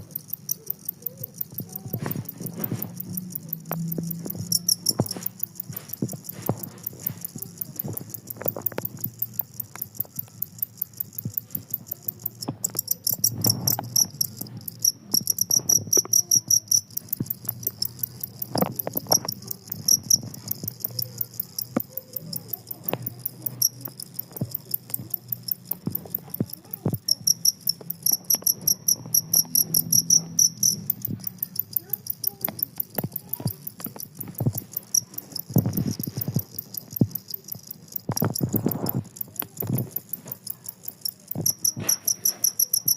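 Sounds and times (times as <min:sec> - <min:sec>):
cricket chirping: 0:00.0 - 0:42.9.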